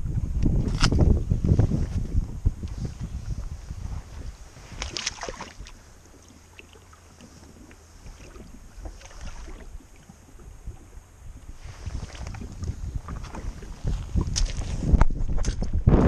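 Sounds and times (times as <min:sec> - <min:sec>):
wind rumbling on microphone: 0:00.0 - 0:16.0
water splashing in shallows: 0:02.9 - 0:15.8.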